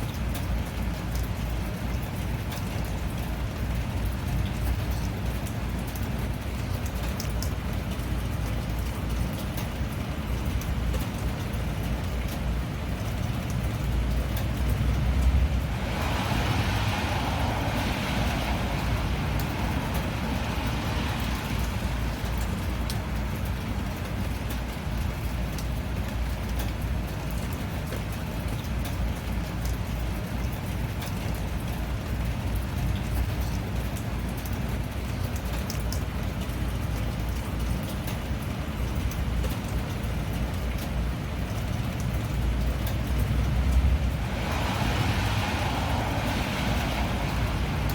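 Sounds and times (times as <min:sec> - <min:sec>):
steady rainfall: 0:00.0 - 0:47.9.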